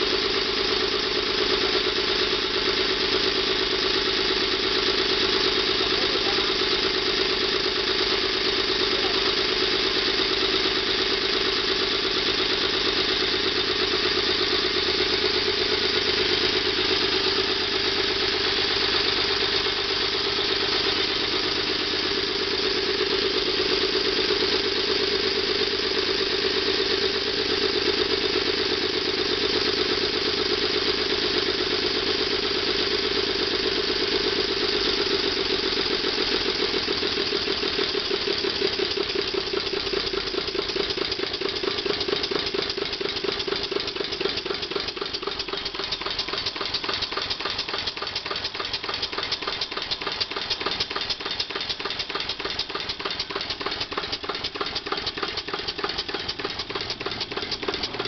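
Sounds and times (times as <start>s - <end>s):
steam engine beat: 0.0s - 58.0s.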